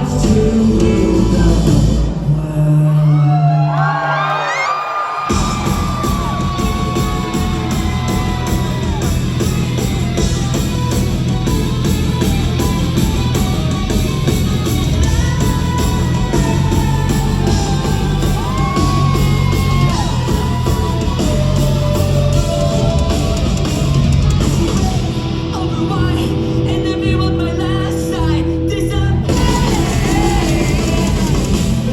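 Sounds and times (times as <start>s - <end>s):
drums: 0.0s - 31.9s
electric guitar: 5.3s - 31.9s.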